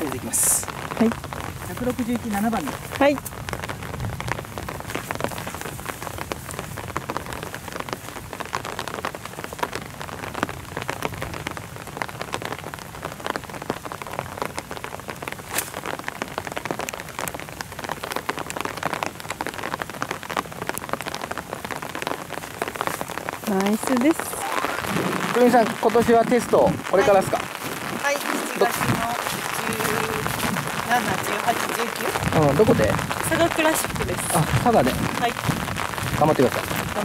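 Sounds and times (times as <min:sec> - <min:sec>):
rain drops ticking: 0:00.0 - 0:37.0.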